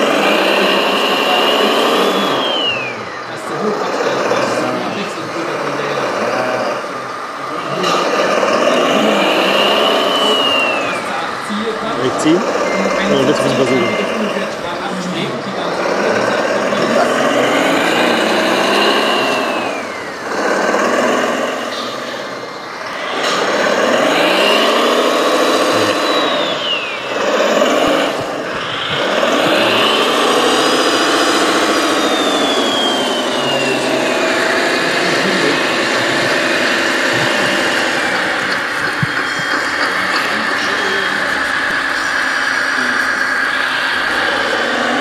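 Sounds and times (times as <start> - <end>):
high whine gliding down: 0.0 - 45.0
rc truck engine revving: 0.0 - 45.0.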